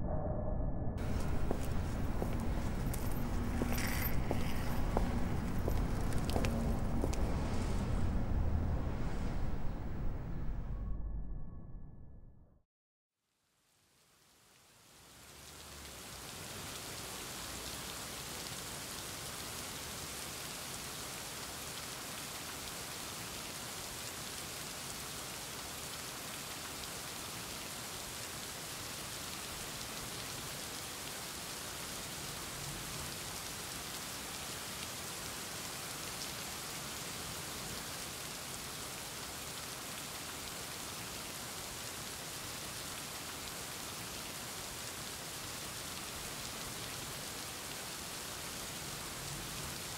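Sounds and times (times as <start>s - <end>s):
heavy rain falling: 1.0s - 10.0s, 15.0s - 49.9s.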